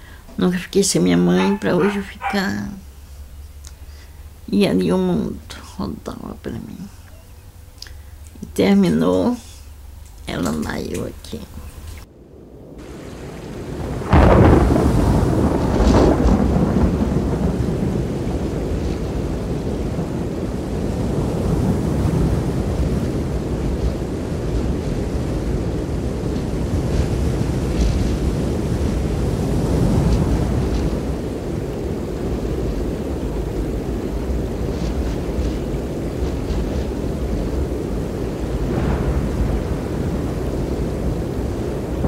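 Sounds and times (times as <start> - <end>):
floodwater rushing: 0.0 - 5.8, 12.8 - 42.0.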